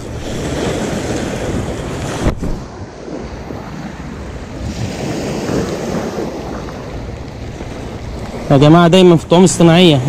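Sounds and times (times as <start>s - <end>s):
waves breaking on stony shore: 0.0s - 10.0s
wind buffeting microphone: 0.0s - 10.0s.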